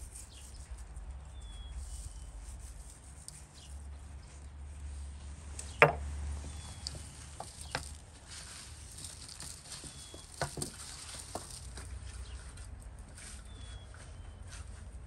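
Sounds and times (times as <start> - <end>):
hands rubbing herbs into meat: 0.0 - 5.4, 6.4 - 15.0.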